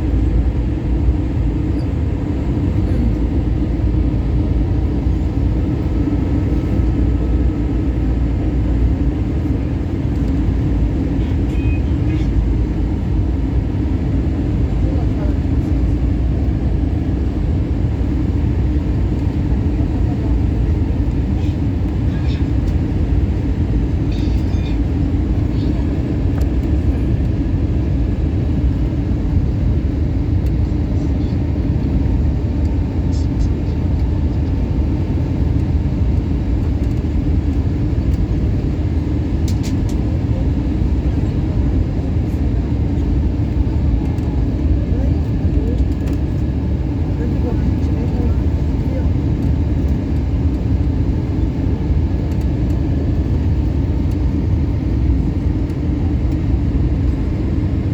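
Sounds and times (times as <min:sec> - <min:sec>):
airplane cabin engine rumble: 0:00.0 - 0:57.9
constant hum: 0:00.0 - 0:57.9.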